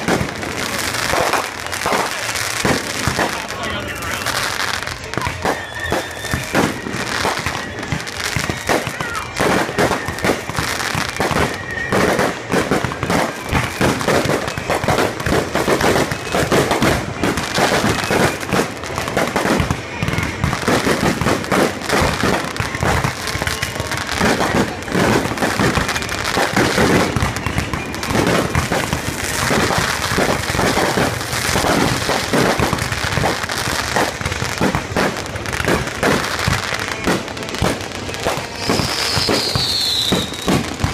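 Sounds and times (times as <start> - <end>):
fireworks bursts and bangs: 0.0 - 40.9.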